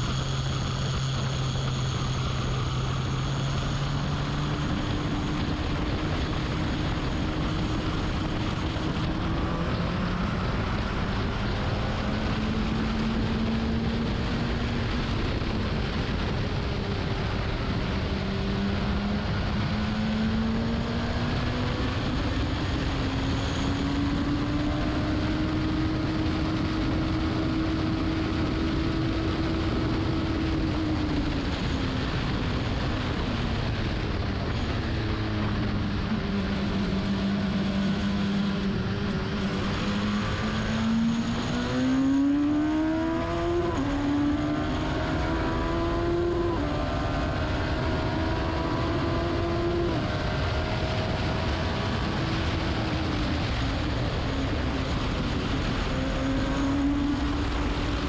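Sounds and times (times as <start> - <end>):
racing car engine revving: 0.0 - 58.0
wind and road noise: 0.0 - 58.0.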